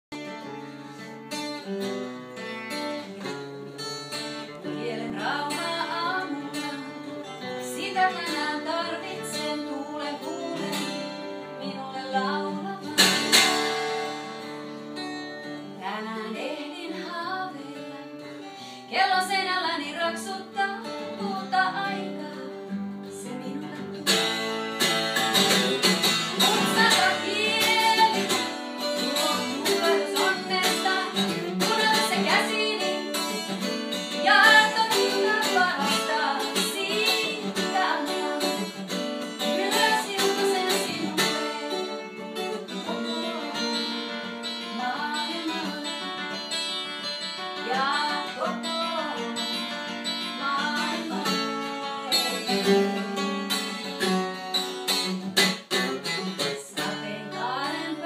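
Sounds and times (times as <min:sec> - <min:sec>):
acoustic guitar: 0:00.0 - 0:58.0
woman singing: 0:04.5 - 0:13.7, 0:15.7 - 0:24.4, 0:25.2 - 0:46.4, 0:47.4 - 0:53.9, 0:56.4 - 0:58.0.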